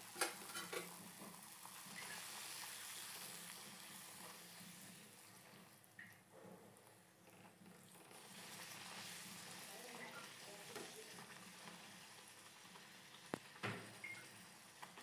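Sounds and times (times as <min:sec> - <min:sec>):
hot oil sizzling: 0:00.0 - 0:06.0, 0:07.8 - 0:15.0.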